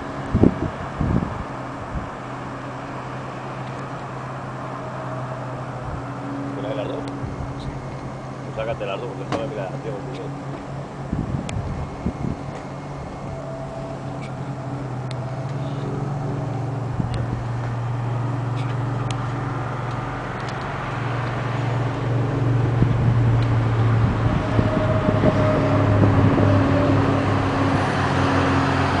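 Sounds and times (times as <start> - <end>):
faint traffic noise: 0.0 - 29.0
vehicle engine humming: 0.0 - 29.0.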